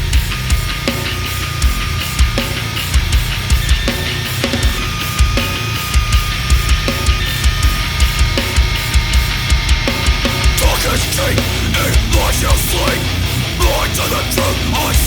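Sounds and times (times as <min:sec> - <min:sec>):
heavy metal instrumental music: 0:00.0 - 0:15.0.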